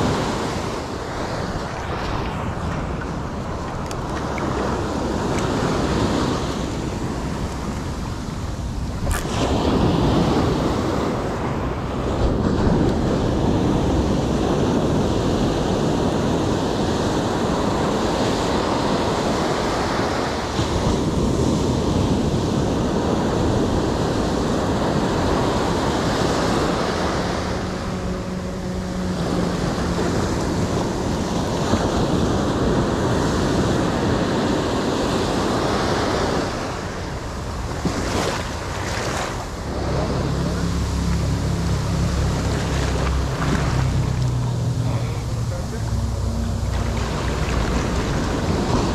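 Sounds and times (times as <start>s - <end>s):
ocean surf breaking on rocks: 0.0s - 48.9s
wind buffeting microphone: 0.0s - 48.9s.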